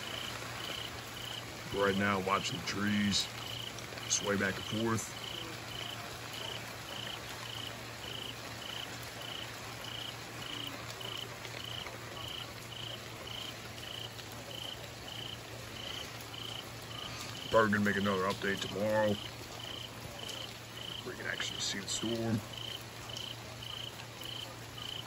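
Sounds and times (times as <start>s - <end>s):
rain and wind hiss: 0.0s - 25.0s.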